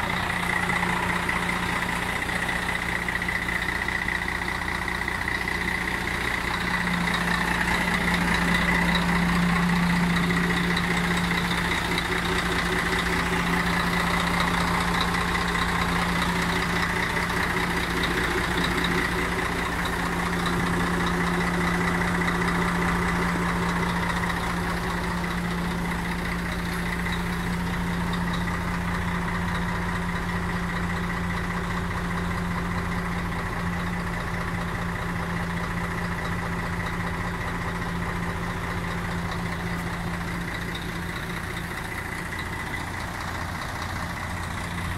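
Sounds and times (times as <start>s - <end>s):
diesel truck engine idling: 0.0s - 44.9s.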